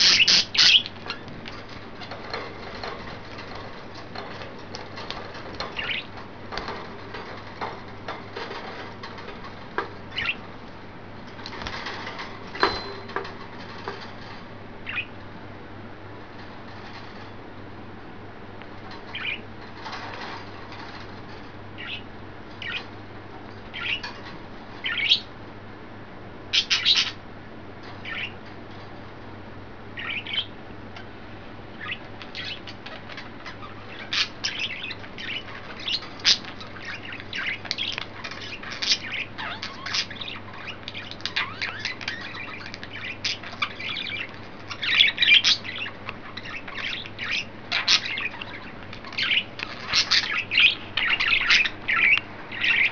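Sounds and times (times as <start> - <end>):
budgerigars chirping and squawking: 0.0 - 10.5, 11.4 - 15.2, 18.8 - 21.1, 21.8 - 23.0, 23.7 - 25.4, 26.5 - 27.2, 27.9 - 28.4, 30.0 - 31.1, 31.7 - 52.9.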